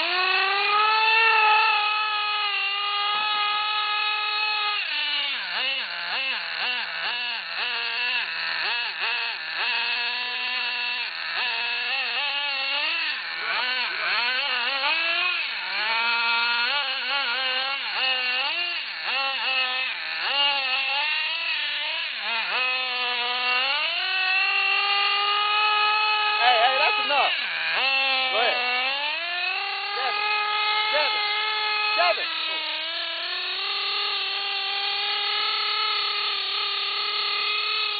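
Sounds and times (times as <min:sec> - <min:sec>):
small two-stroke engine revving: 0:00.0 - 0:37.9.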